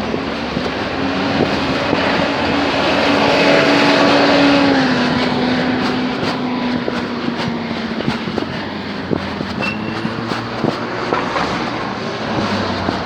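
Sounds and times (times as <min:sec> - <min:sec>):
motor vehicle passing by: 0:00.0 - 0:13.0.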